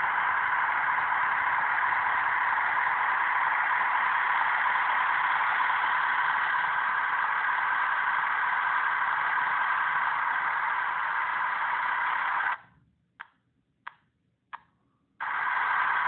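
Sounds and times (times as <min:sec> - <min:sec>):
hissing engine idle drone: 0:00.0 - 0:12.6, 0:15.2 - 0:16.0.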